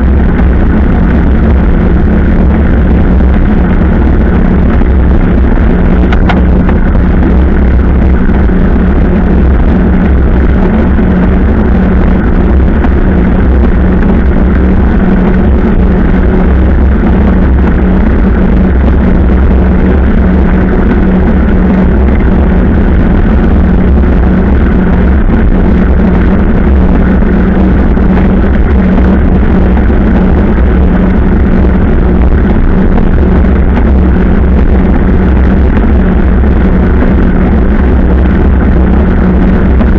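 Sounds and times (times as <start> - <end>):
motorcycle engine cruising: 0.0 - 39.9
road and wind rumble: 0.0 - 39.9.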